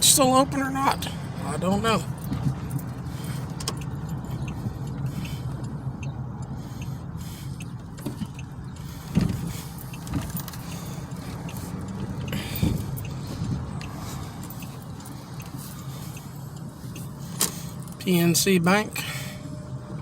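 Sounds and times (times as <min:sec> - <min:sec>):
car engine and road hum: 0:00.0 - 0:20.0.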